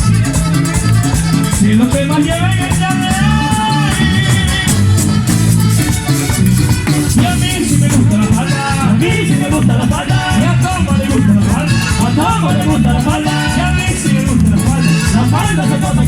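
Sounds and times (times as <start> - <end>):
accordion melody: 0.0 - 16.0
bass line: 0.0 - 16.0.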